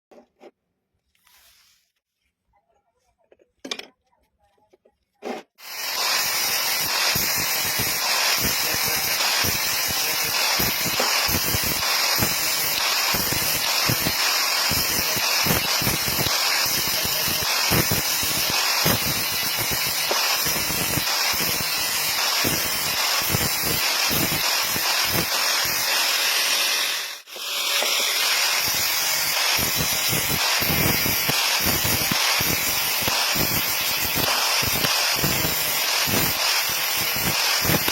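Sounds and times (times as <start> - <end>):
welding arc crackling sizzle: 5.6 - 37.9.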